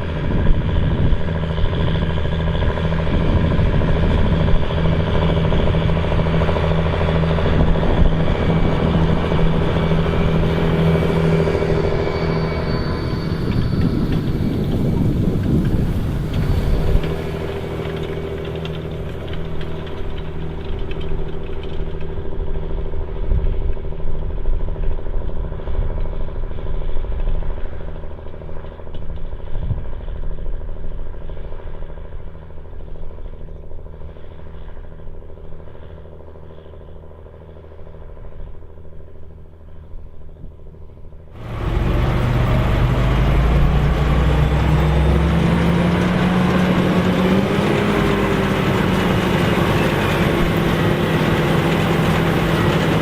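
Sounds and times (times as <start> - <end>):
tractor engine speeding up: 0.0 - 39.6, 40.8 - 53.0
tractor engine running: 0.0 - 53.0.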